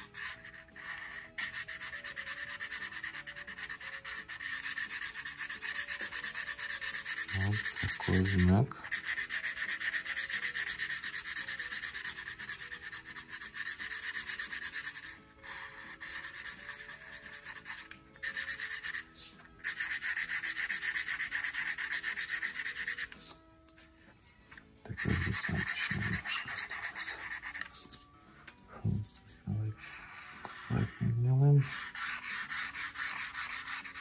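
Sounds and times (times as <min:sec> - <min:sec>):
marker scribbling on paper: 0:00.0 - 0:23.4, 0:24.9 - 0:28.1, 0:29.0 - 0:34.0.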